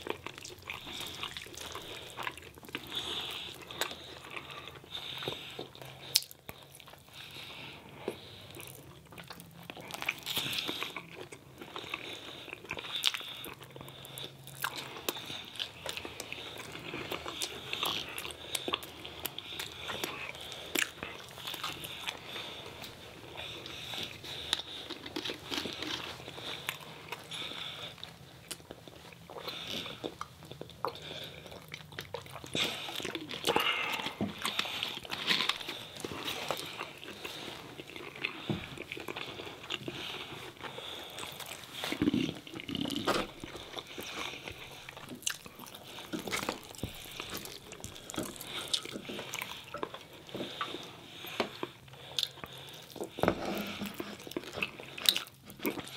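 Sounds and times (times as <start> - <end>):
food crunching: 0.0 - 55.9
people chewing food: 0.0 - 55.9.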